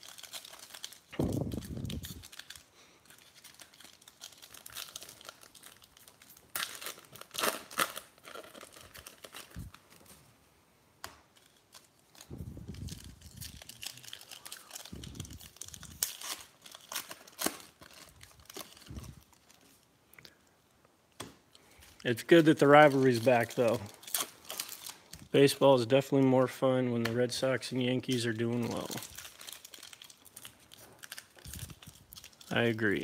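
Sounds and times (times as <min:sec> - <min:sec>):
foil wrappers crinkling and tearing: 0:00.0 - 0:10.3, 0:11.2 - 0:19.9, 0:21.5 - 0:26.3, 0:27.0 - 0:33.0.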